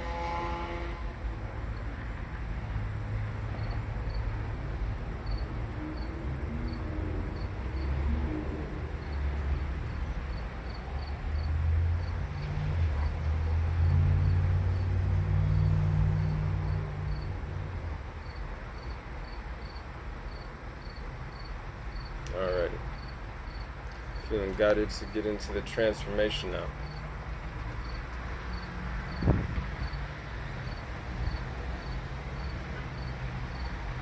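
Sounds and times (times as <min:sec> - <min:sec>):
crickets chirping: 0:01.6 - 0:24.4, 0:26.1 - 0:34.0.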